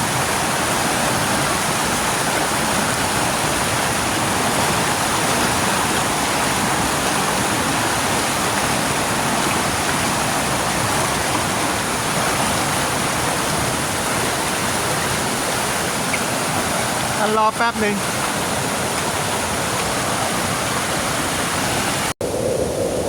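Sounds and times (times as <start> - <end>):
waterfall rushing: 0.0 - 22.2.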